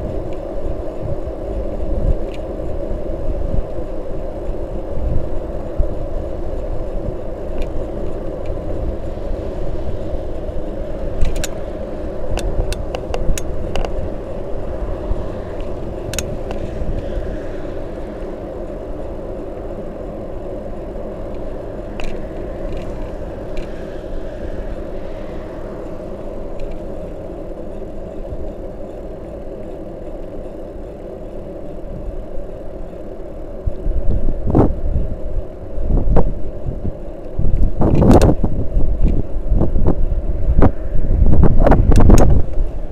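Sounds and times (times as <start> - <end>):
bicycle tyres rolling on asphalt: 0.0 - 42.9
wind buffeting microphone: 0.0 - 42.9.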